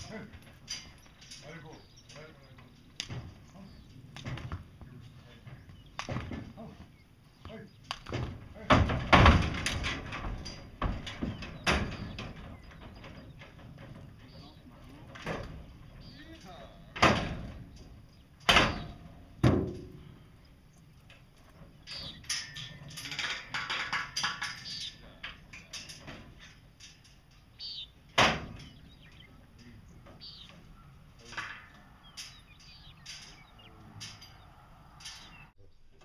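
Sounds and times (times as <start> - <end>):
rattling and knocking: 0.0 - 6.9, 7.5 - 20.2, 20.9 - 35.5
metallic bangs from horse trailer: 0.0 - 35.5.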